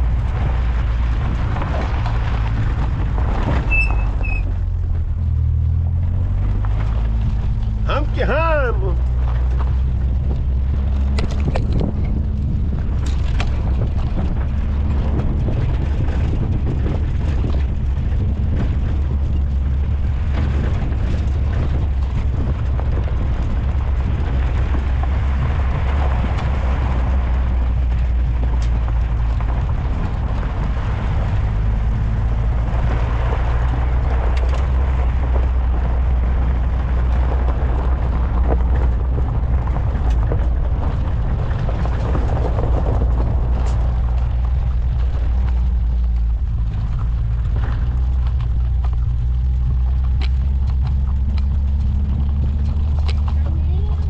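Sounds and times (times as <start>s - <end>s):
van engine drone: 0.0s - 54.0s
wind rumbling on microphone: 0.0s - 54.0s.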